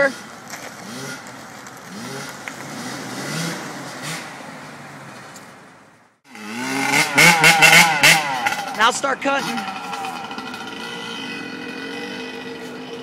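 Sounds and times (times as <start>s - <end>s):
engine revving: 0.0s - 4.7s, 6.2s - 13.0s.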